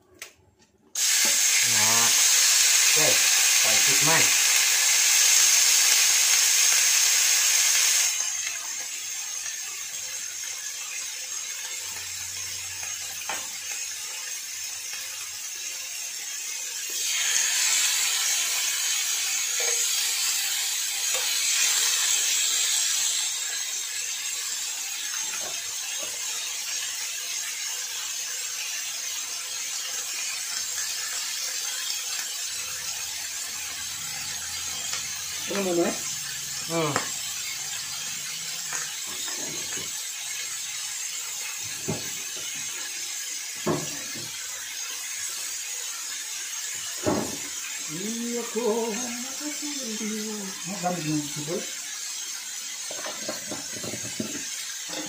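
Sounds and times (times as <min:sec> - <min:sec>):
fish sizzling on grill pan: 0:01.0 - 0:55.0.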